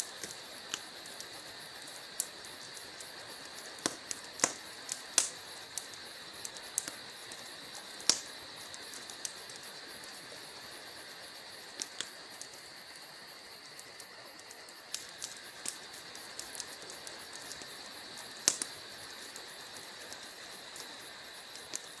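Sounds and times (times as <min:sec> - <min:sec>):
logs crackling and popping: 0:00.0 - 0:11.0, 0:11.6 - 0:22.0
fire hissing: 0:00.0 - 0:22.0.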